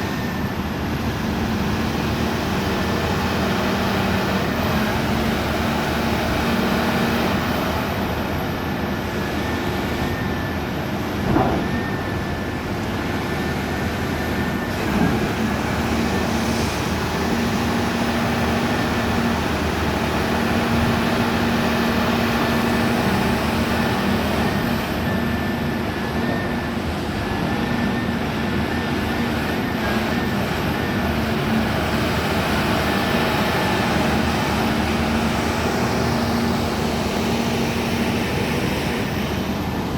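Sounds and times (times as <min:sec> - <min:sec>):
excavator engine hum: 0:00.0 - 0:39.9.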